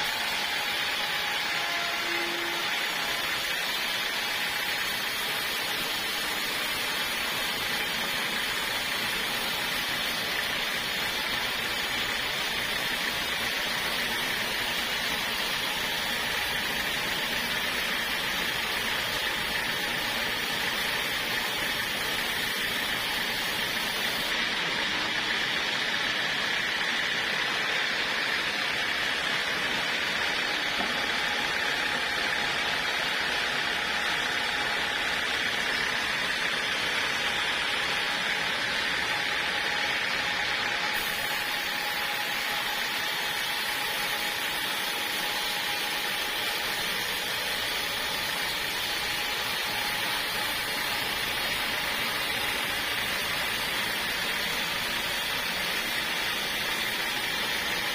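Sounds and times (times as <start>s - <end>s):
sawmill blade cutting log: 0.0s - 27.6s, 28.2s - 57.9s.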